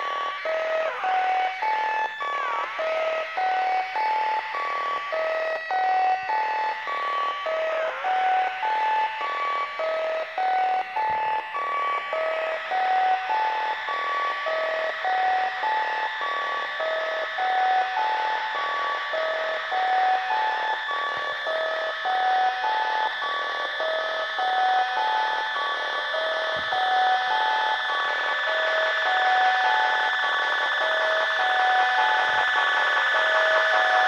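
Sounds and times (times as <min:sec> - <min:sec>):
looping electronic beeps: 0:00.0 - 0:34.0.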